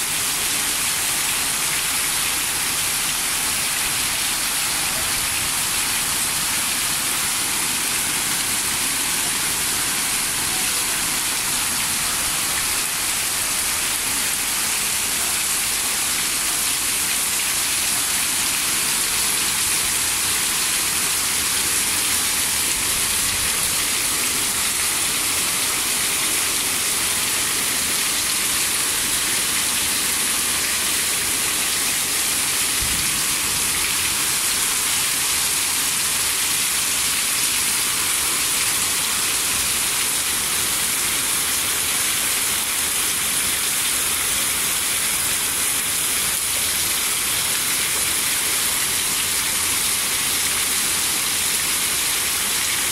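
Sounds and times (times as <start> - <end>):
heavy rain on leaves and path: 0.0 - 52.9
water running off roof: 0.0 - 52.9.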